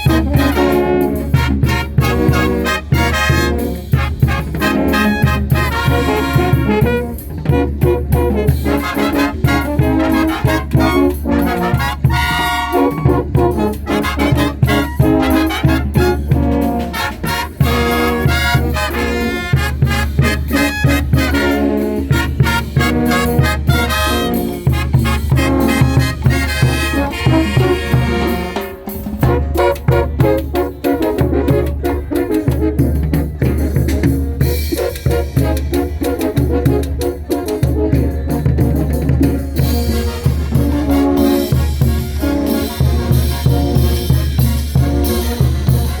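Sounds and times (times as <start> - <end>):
steady drum beat: 0.0 - 46.0
trumpets and trombones: 0.0 - 46.0.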